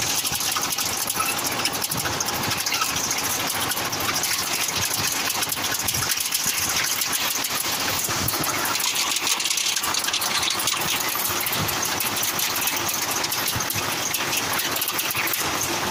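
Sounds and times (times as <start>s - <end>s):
steady rushing noise: 1.8s - 15.9s.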